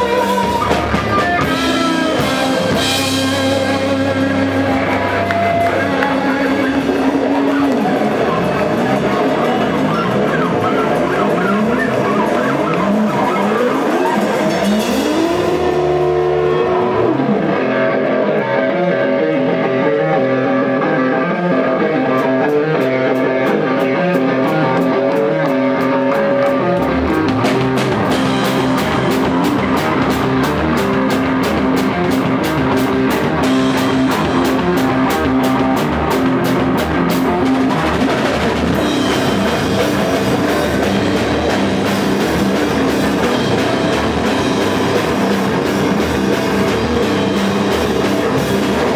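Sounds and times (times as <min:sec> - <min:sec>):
electric guitar bending notes: 0:00.0 - 0:48.9
rock band playing: 0:00.0 - 0:48.9.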